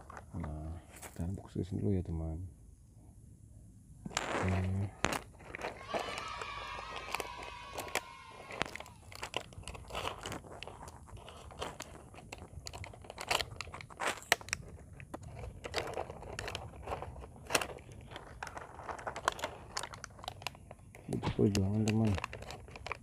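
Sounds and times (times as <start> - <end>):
plastic packaging crinkling: 0.0 - 1.0, 4.1 - 23.0.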